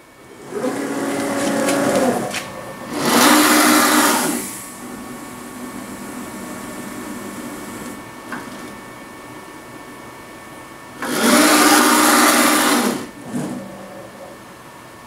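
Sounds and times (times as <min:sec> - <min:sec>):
machine motors whining: 0:00.0 - 0:10.1, 0:10.7 - 0:15.0.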